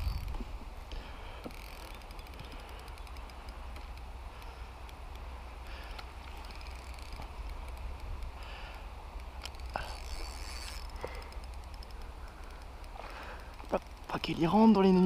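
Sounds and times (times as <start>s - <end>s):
fishing reel whirring and clicking: 0.0s - 0.4s, 1.4s - 15.0s.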